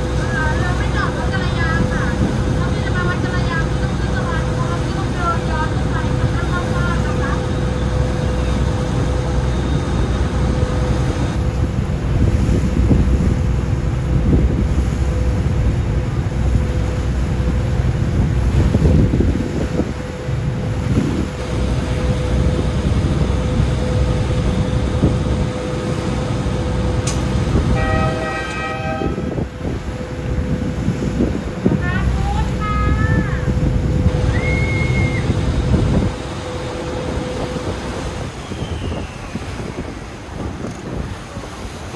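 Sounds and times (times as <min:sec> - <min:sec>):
boat engine rumbling with whine: 0:00.0 - 0:41.9
water washing along hull: 0:00.0 - 0:41.9.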